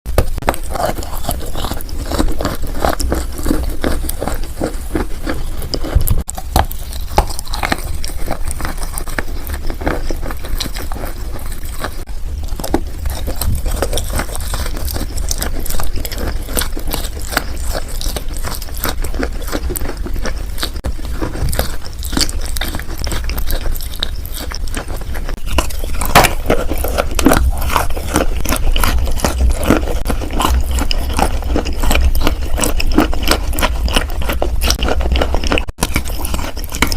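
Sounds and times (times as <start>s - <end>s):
chewing chalk crunching: 0.1s - 36.9s.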